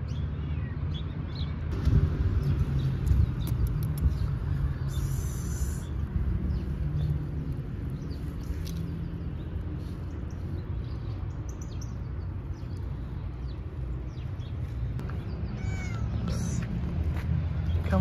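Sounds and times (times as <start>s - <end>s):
steady low rumble: 1.7s - 17.9s.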